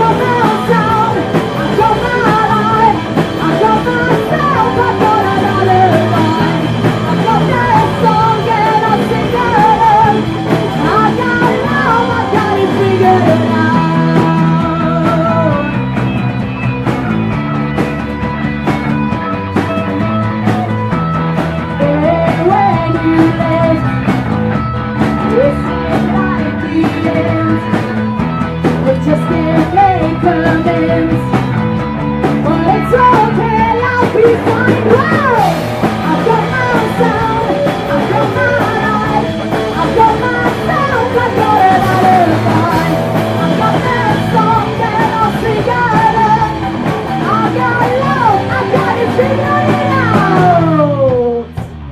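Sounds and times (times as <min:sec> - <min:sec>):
punk rock band playing: 0:00.0 - 0:51.9
sliding electric guitar lead: 0:00.0 - 0:51.9.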